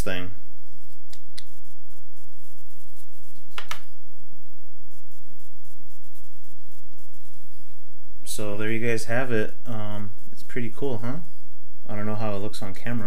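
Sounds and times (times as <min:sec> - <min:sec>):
room noise: 0:00.0 - 0:13.0.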